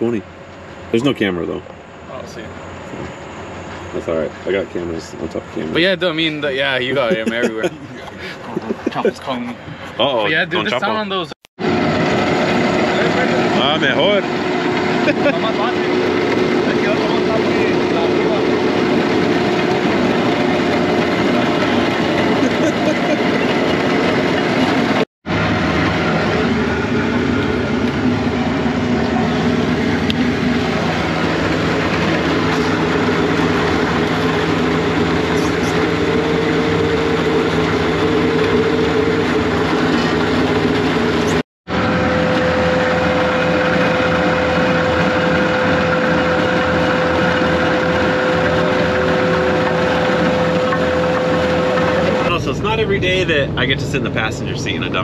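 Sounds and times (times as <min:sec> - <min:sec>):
diesel engine running: 0:00.0 - 0:55.0
steady whine: 0:00.0 - 0:55.0.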